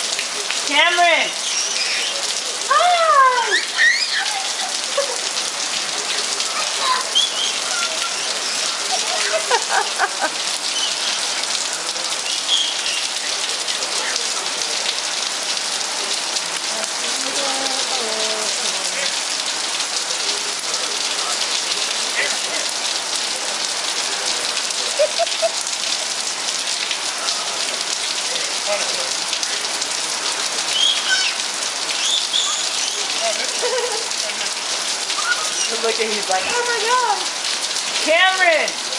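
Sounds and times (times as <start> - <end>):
steady rain falling: 0.0 - 38.9
faint voices calling out: 0.6 - 37.4.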